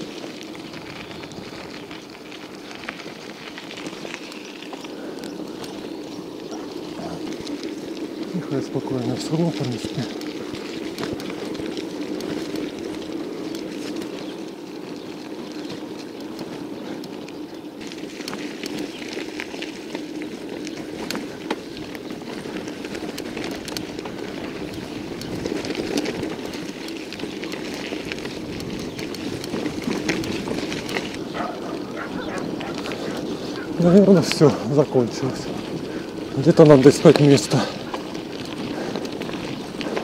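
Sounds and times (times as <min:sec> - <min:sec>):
bicycle rolling over rough road: 0:00.0 - 0:40.0
small rattles and clicks: 0:00.0 - 0:40.0.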